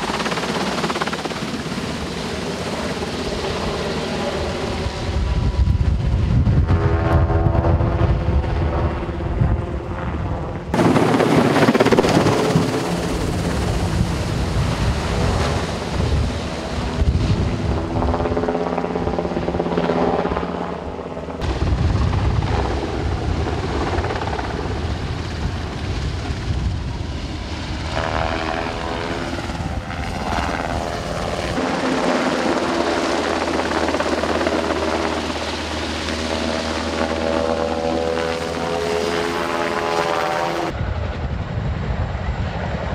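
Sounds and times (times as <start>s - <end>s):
helicopter flying overhead: 0.0s - 42.9s.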